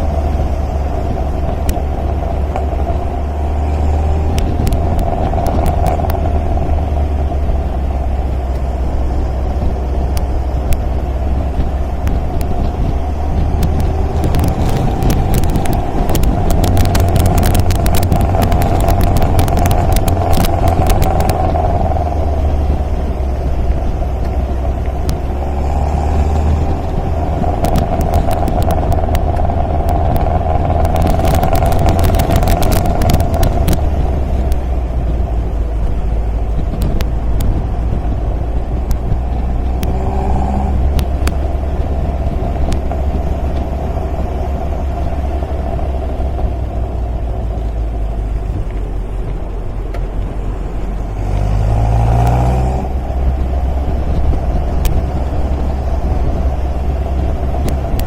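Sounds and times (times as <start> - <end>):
car engine running: 0.0 - 58.0
sharp crackling clicks: 0.1 - 58.0.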